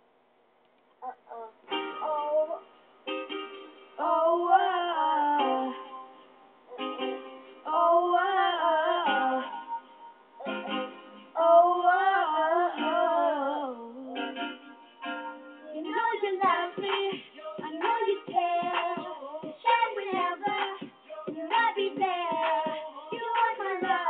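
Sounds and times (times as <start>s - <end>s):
girl singing: 1.0s - 2.7s, 4.0s - 14.5s, 15.6s - 24.0s.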